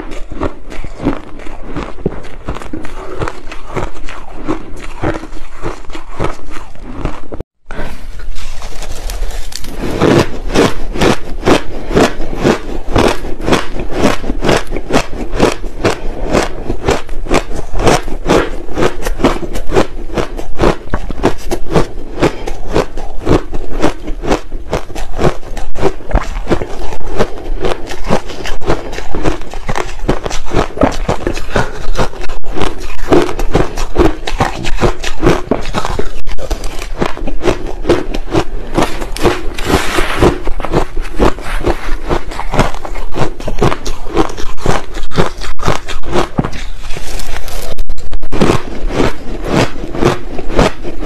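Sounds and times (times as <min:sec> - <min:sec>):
ice being chewed crunching: 0:00.0 - 0:07.4, 0:08.1 - 0:51.0.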